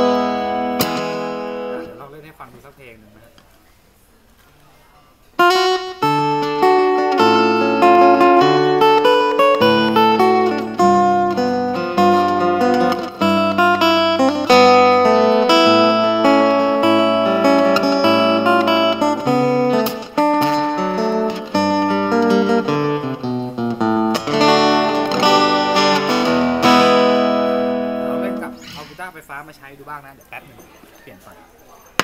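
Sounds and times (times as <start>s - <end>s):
fingerpicked guitar through amplifier: 0.0s - 2.2s, 5.3s - 29.0s.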